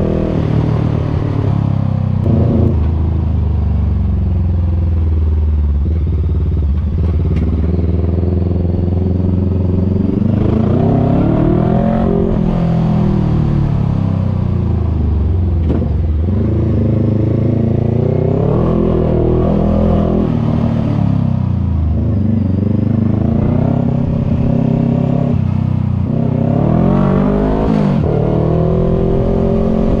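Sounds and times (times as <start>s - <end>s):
motorcycle engine revving: 0.0s - 3.4s, 4.9s - 30.0s.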